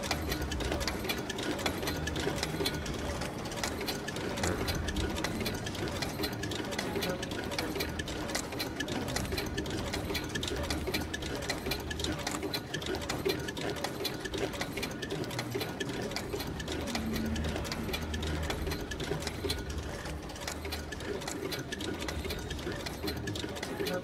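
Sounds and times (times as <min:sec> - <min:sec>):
small machine clattering: 0:00.0 - 0:24.0.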